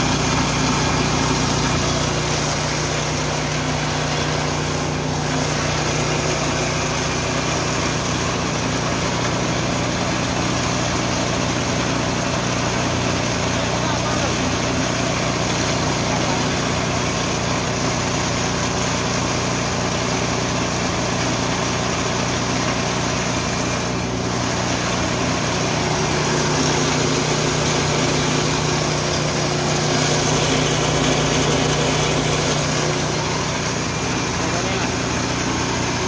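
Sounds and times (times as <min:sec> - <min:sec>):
milling machine running: 0:00.0 - 0:36.0.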